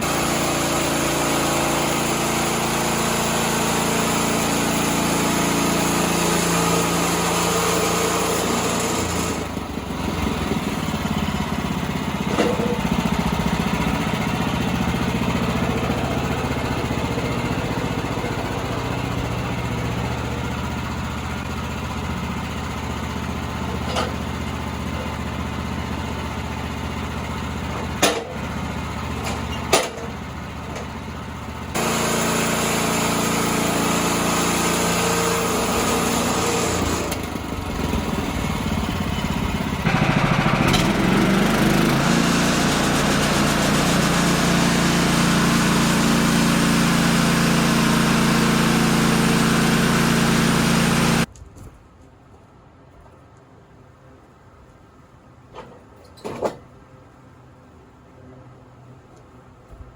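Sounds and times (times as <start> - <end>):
sawmill engine running: 0.0 - 51.3.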